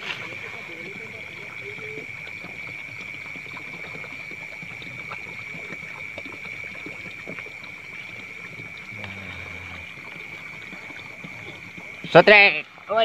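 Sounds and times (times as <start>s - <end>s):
frogs and insects trilling: 0.0s - 13.0s.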